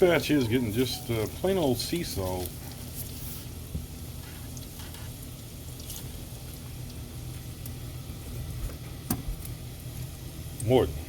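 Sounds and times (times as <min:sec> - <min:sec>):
frying oil sizzling: 0:00.0 - 0:11.0.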